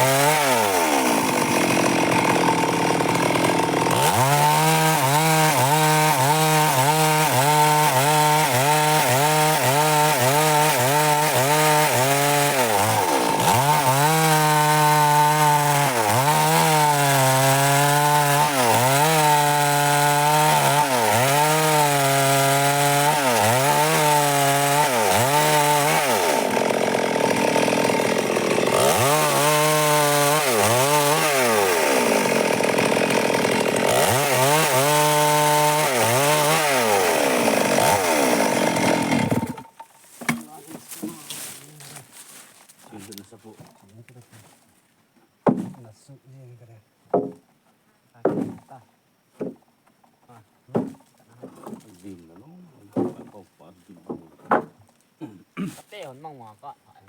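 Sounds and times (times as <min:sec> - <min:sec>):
chainsaw cutting wood: 0:00.0 - 0:43.4, 0:47.1 - 0:47.4, 0:48.2 - 0:48.7, 0:50.7 - 0:55.7.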